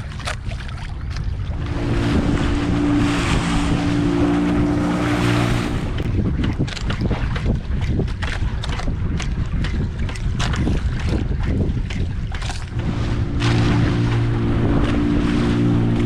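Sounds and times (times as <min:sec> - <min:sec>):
boat motor running: 0:00.0 - 0:16.0
rushing water: 0:00.0 - 0:16.0
wind buffeting microphone: 0:00.0 - 0:16.0.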